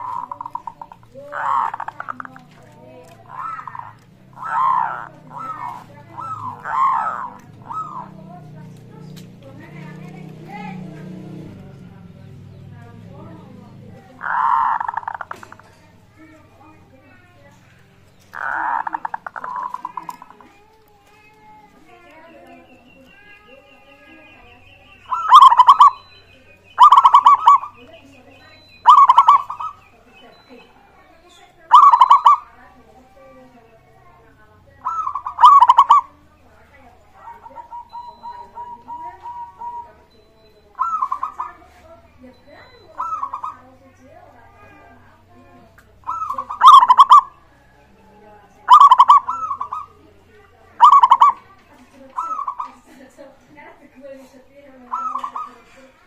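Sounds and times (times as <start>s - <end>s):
dove cooing calls: 0.0s - 56.0s.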